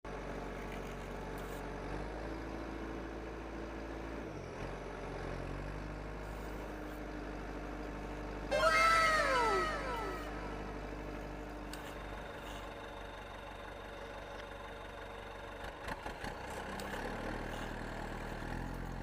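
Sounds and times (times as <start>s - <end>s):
vehicle engine humming: 0.1s - 19.0s.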